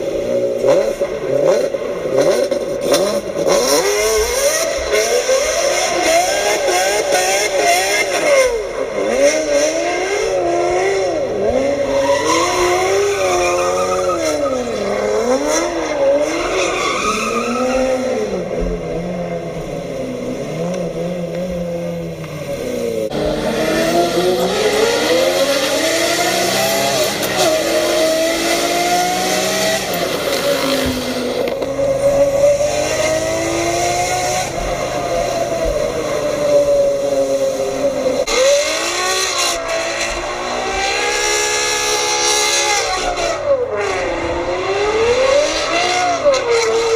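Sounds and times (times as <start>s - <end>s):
car engine revving hard: 0.0s - 46.9s.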